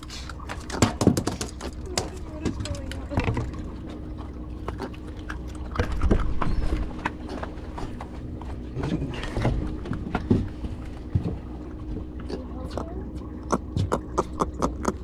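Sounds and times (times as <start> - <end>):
steady low hum: 0.0 - 15.0
knocks and thumps on a boat: 0.5 - 15.0.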